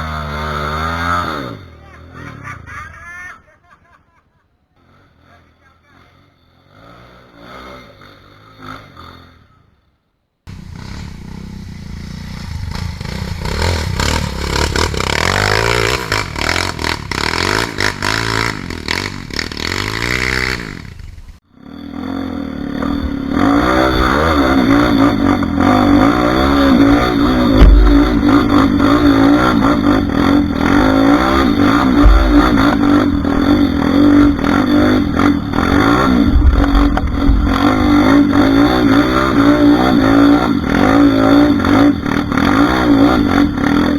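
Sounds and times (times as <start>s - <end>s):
motorcycle engines revving: 0.0s - 2.8s, 4.8s - 43.9s.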